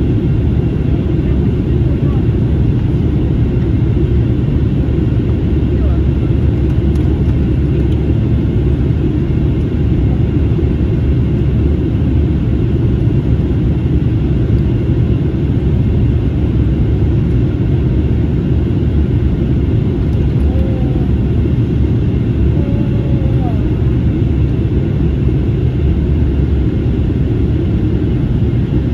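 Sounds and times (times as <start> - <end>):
airliner cabin engine rumble: 0.0 - 28.9.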